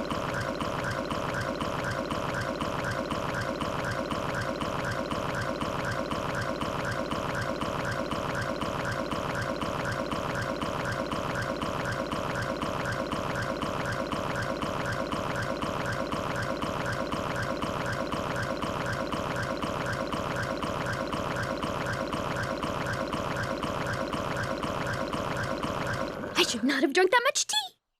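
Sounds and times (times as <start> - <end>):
stomach growling and gurgling: 0.0 - 26.4.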